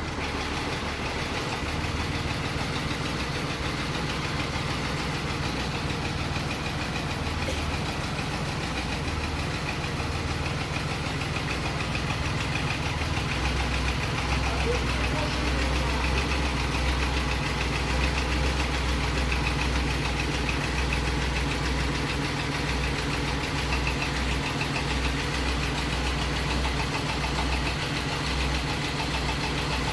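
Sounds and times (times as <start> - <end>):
car engine idling with knock: 0.0 - 29.9.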